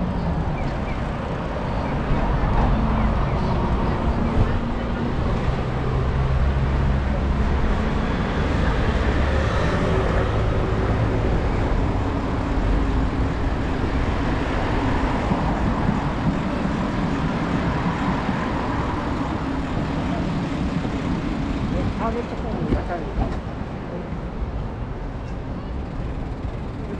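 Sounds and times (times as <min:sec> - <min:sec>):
vehicles passing: 0:00.0 - 0:26.9.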